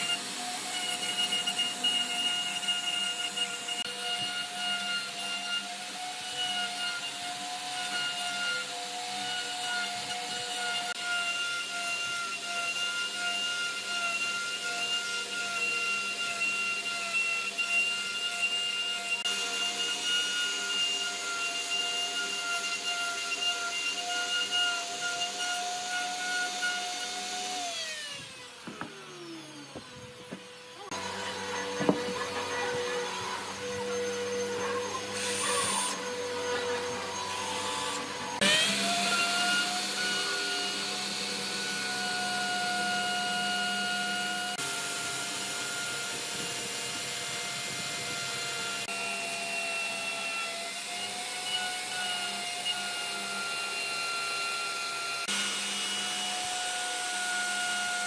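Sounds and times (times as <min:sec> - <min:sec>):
power tool motor whine: 0:00.0 - 0:58.0.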